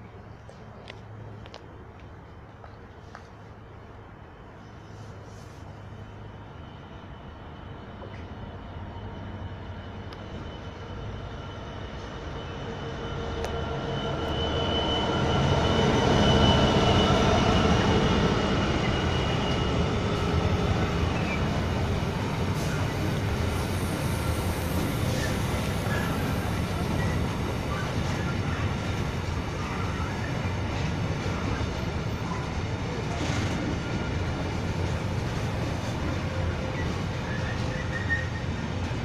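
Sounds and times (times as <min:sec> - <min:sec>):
diesel locomotive passing: 0:00.0 - 0:39.0.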